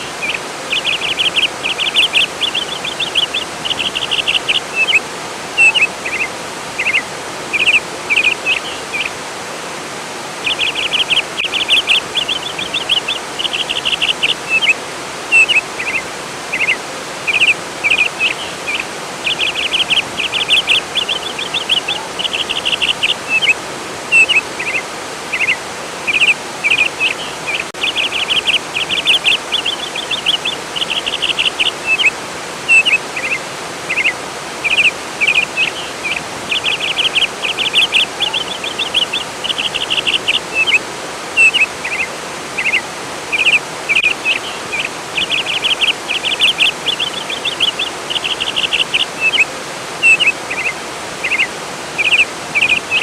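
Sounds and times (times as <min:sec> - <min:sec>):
songbird chirping and trilling: 0:00.0 - 0:09.2, 0:10.3 - 0:53.0
flowing water: 0:00.0 - 0:53.0.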